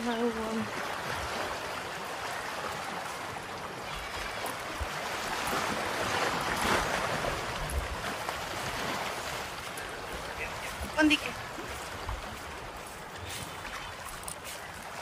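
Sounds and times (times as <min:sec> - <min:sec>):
sea surf rushing: 0:00.0 - 0:15.0
wind: 0:00.0 - 0:15.0.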